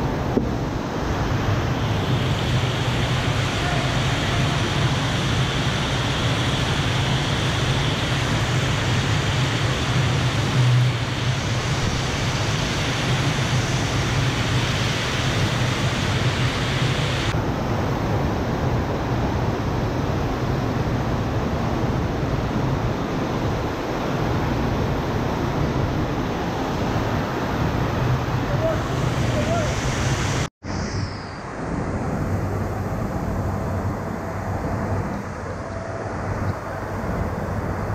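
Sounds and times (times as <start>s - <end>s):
rushing water: 0.0s - 37.9s.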